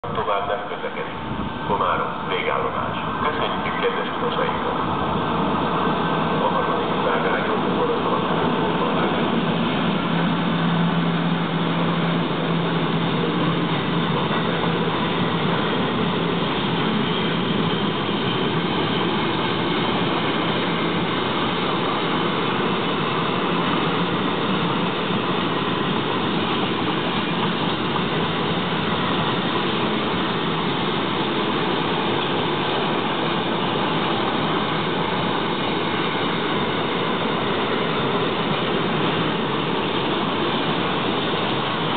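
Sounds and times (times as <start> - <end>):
electric locomotive hum: 0.0 - 41.9
train wheels rolling on rails: 0.8 - 41.9.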